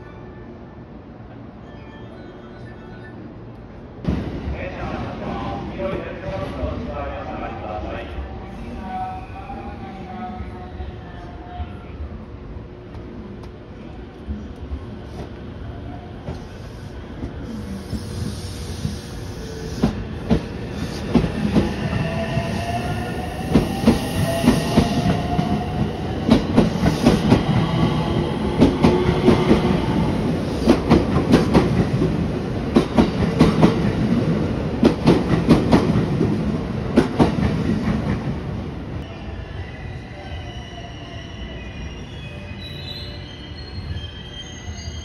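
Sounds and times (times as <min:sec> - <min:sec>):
electric train whine: 0:06.7 - 0:45.0.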